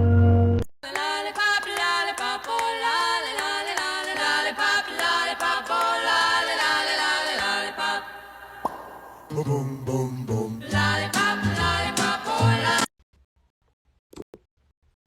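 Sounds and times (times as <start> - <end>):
a cappella singing: 0.8 - 12.9.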